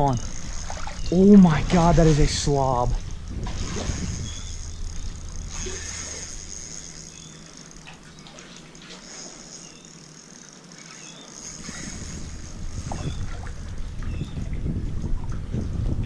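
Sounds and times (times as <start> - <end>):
low wind rumble on microphone: 0.0 - 8.4, 11.4 - 16.0
water lapping and sloshing: 0.0 - 16.0.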